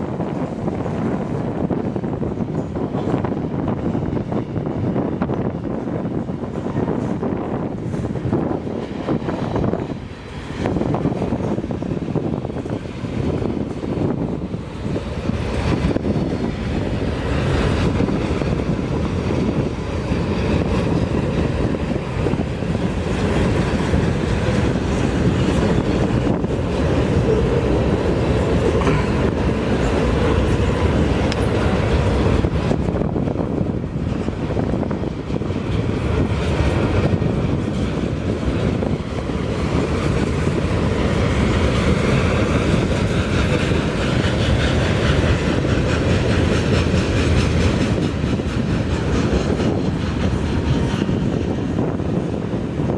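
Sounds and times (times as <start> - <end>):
train cars rumbling past: 0.0 - 52.9
wheels clacking over rail joints: 6.5 - 52.3.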